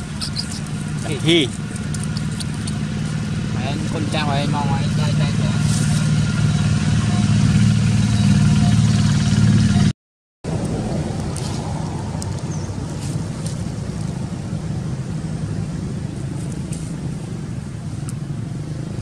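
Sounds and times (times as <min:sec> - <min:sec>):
vehicle engine humming: 0:00.0 - 0:09.9, 0:10.5 - 0:19.0.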